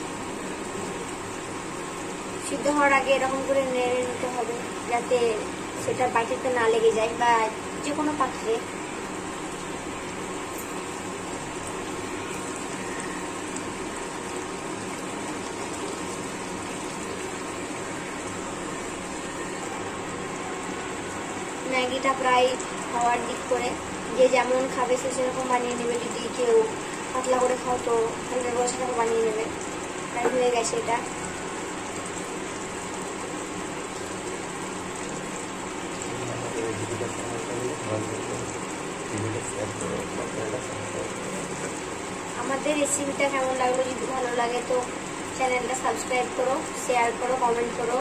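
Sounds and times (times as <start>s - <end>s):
broth boiling and bubbling: 0.0s - 48.0s
faint steady hum: 0.0s - 48.0s.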